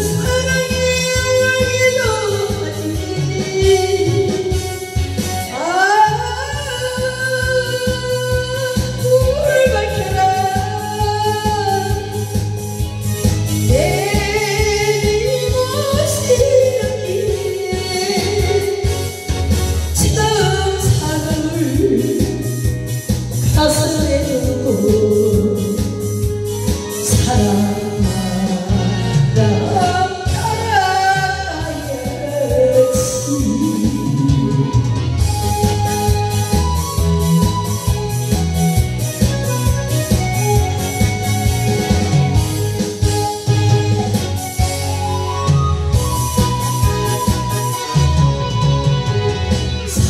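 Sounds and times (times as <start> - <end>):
karaoke backing track: 0.0 - 50.0
woman singing into microphone: 0.0 - 50.0.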